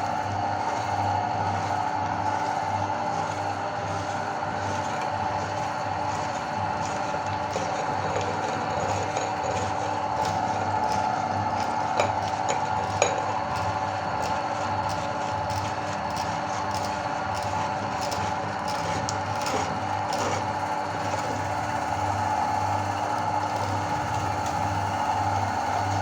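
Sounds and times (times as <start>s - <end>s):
meat grinder humming: 0.0s - 26.0s.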